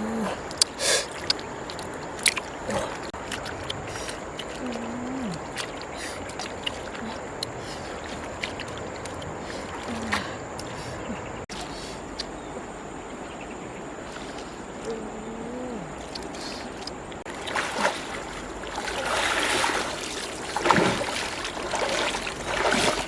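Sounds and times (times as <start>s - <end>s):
water sloshing and trickling: 0.0s - 23.0s.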